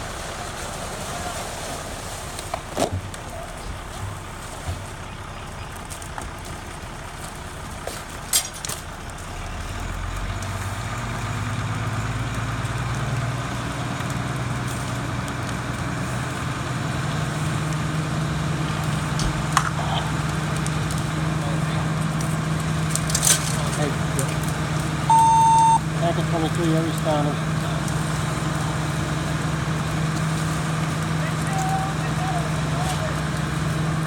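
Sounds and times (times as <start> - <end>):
fire engine motor revving: 0.0 - 34.0.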